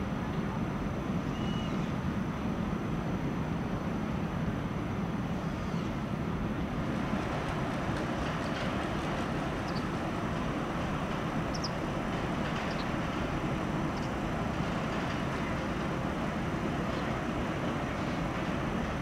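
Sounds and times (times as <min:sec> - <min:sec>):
train rumble and hiss: 0:00.0 - 0:19.0.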